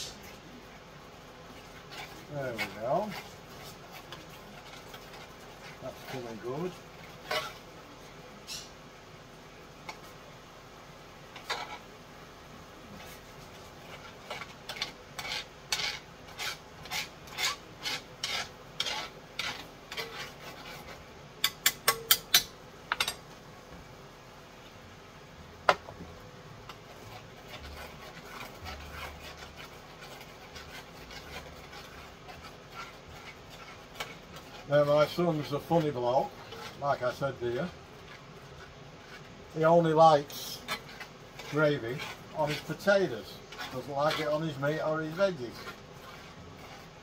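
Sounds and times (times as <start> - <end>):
utensil stirring in metal pan: 0.0 - 47.0.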